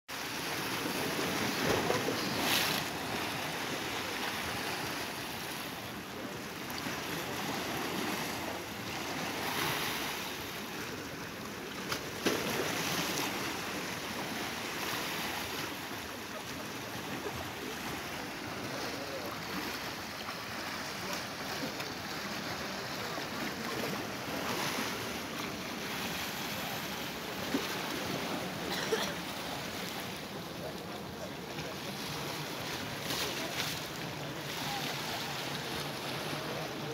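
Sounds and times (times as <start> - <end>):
sea waves splashing against stone: 0.1 - 36.9.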